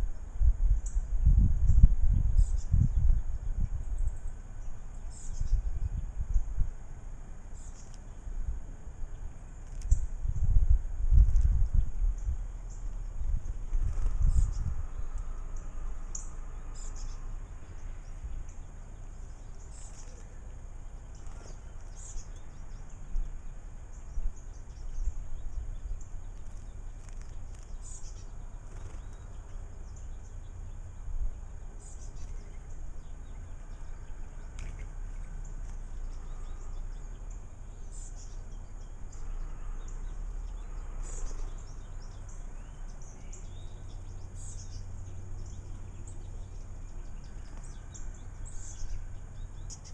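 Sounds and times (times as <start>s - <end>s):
low outdoor rumble: 0.0s - 49.9s
small bird chirping: 0.0s - 49.9s.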